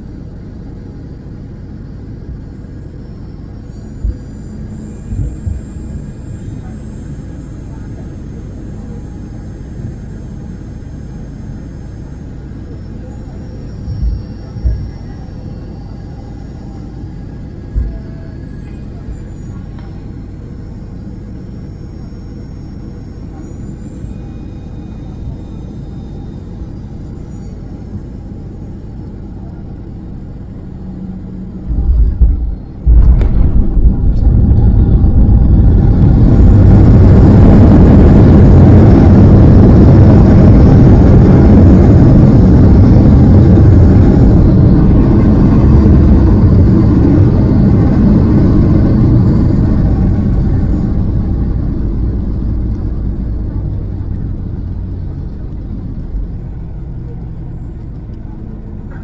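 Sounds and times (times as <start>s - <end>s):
jet engines roaring: 0.0s - 59.0s
wheels rumbling on runway: 0.0s - 59.0s.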